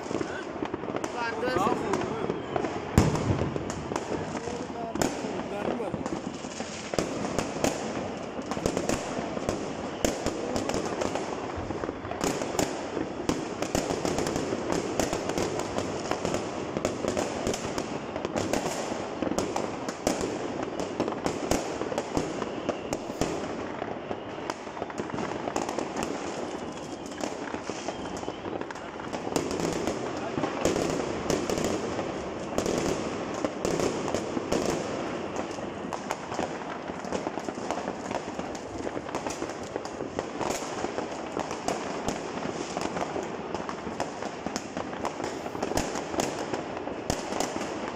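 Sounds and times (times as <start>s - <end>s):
fireworks crackling and banging: 0.0s - 47.9s.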